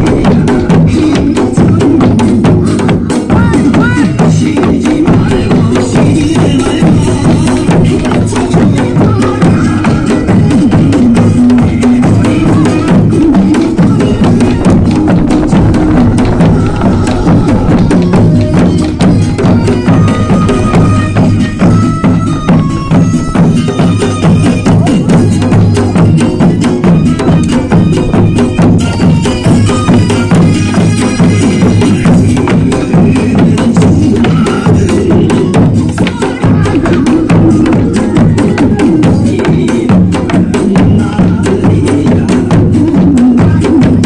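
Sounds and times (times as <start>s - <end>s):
barrel drum: 0.0s - 44.0s
folk dance music: 0.0s - 44.0s
hand drums: 0.0s - 44.0s.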